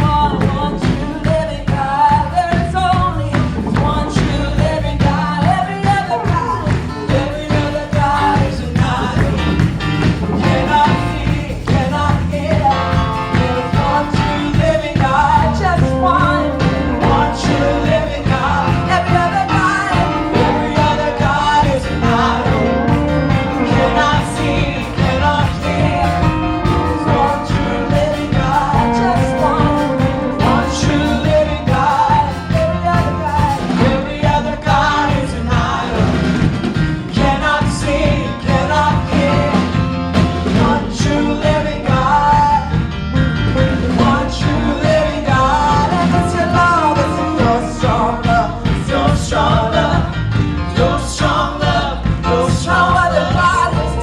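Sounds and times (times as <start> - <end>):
people singing: 0.0 - 54.0
upbeat band playing: 0.0 - 54.0.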